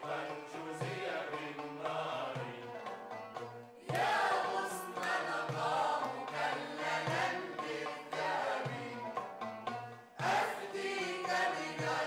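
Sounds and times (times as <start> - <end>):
group of voices singing: 0.0 - 3.2, 3.8 - 9.3, 10.2 - 12.0
frame drum: 0.0 - 12.0
oud: 0.0 - 12.0
qanun: 0.0 - 12.0.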